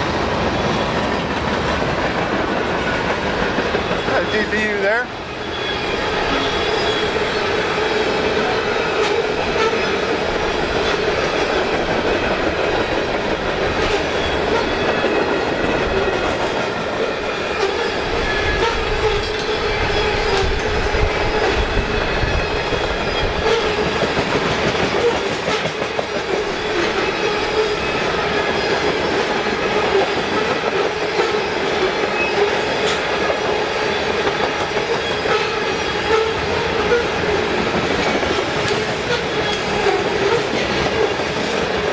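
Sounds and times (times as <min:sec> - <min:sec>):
freight train wheels clacking: 0:00.0 - 0:41.9
train rumble: 0:00.0 - 0:41.9.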